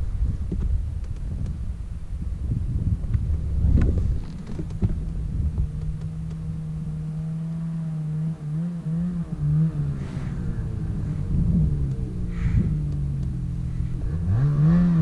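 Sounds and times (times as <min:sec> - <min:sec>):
wind on microphone: 0:00.0 - 0:07.4, 0:09.0 - 0:15.0
snowmobile engine running: 0:02.1 - 0:15.0.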